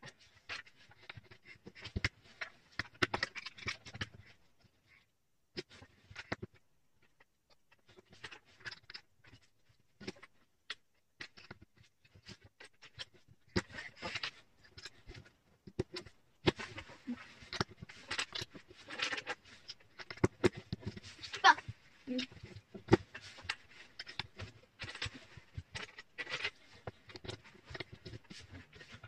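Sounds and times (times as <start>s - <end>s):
rustling: 0.0s - 29.0s.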